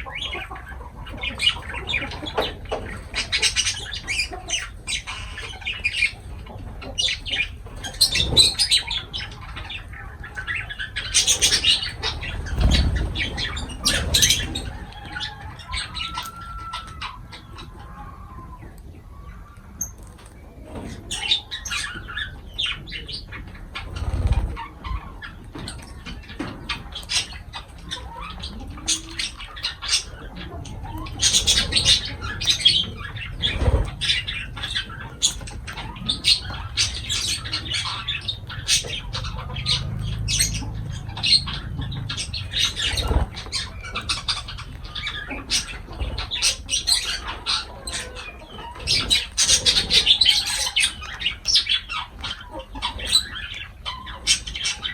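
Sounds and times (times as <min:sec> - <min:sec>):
lovebirds chirping and squawking: 0:00.0 - 0:54.9.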